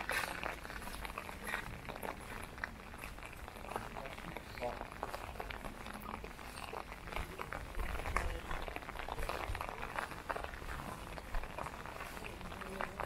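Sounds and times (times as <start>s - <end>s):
light rain pattering on an umbrella: 0.0s - 13.0s.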